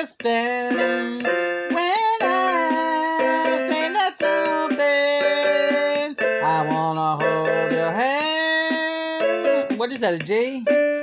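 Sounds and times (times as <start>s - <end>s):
electronic keyboard organ chords: 0.0s - 11.0s.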